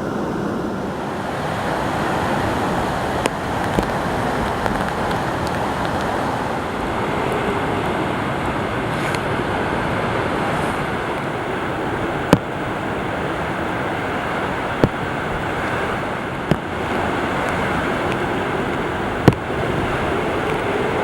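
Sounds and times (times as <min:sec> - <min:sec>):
storm wind rushing: 0:00.0 - 0:21.0.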